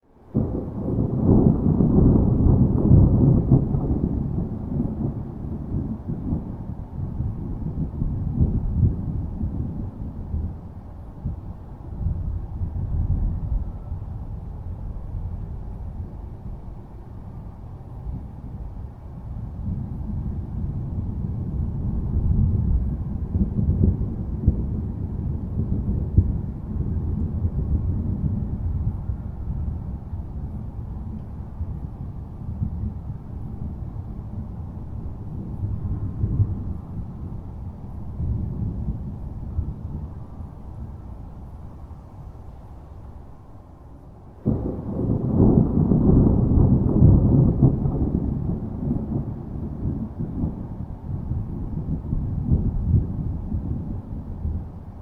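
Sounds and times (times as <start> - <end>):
rolling thunder rumble: 0.1 - 55.0.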